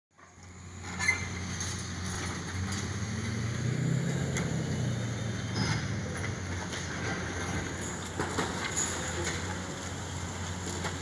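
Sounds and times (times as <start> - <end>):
excavator diesel engine running: 0.2 - 11.0.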